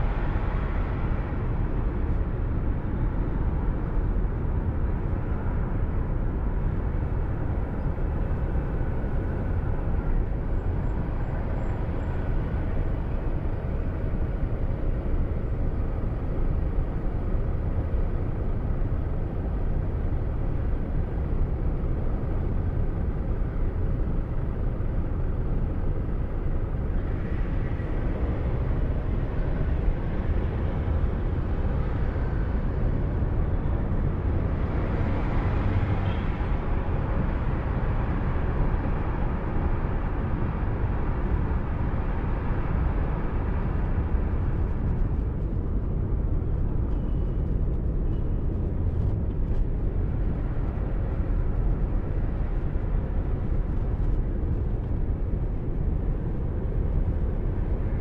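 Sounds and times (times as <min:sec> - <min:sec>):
tyres and engine rumble: 0:00.0 - 0:58.0.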